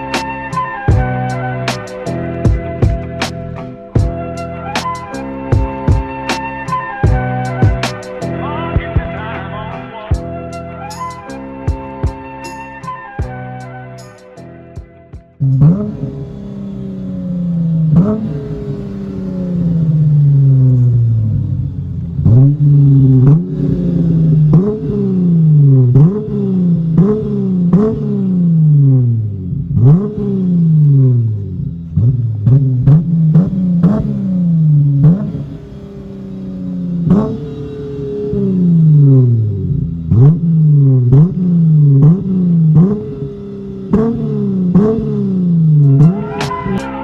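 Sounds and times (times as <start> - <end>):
car engine revving: 0.0 - 14.5, 15.3 - 47.0.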